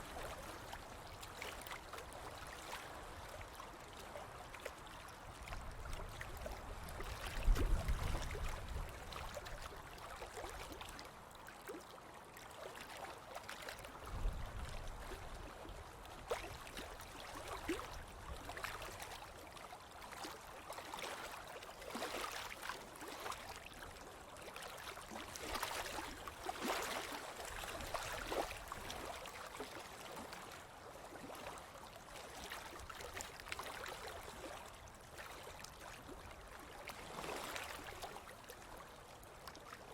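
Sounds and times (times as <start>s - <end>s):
small waves fizzing on shore: 0.0s - 39.9s.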